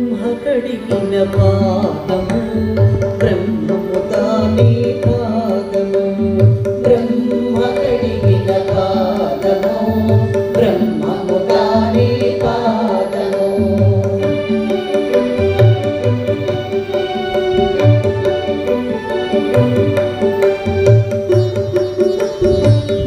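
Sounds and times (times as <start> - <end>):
tabla: 0.0 - 23.0
wavering melody line: 0.7 - 23.0.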